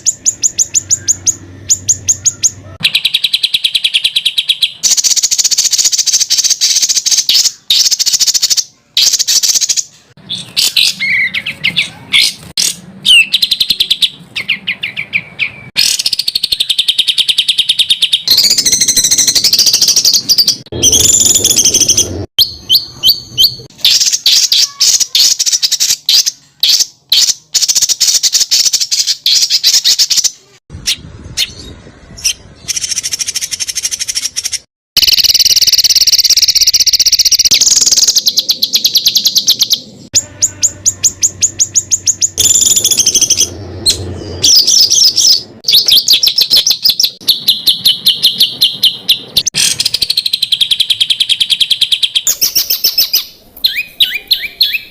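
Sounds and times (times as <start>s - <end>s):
songbirds singing high trills: 0.0s - 54.9s.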